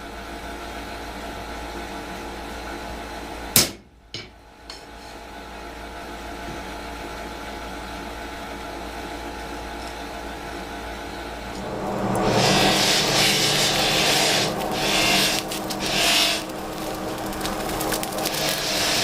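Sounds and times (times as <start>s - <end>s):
steady electric hum: 0.0s - 19.0s.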